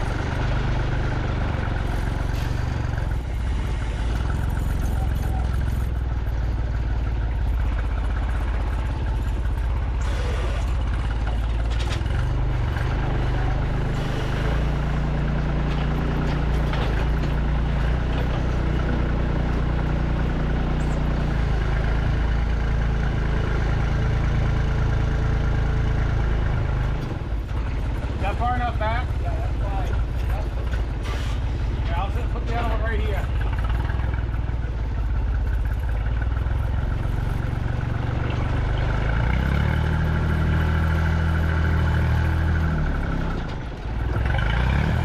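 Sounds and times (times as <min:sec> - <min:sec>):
truck engine running: 0:00.0 - 0:45.0.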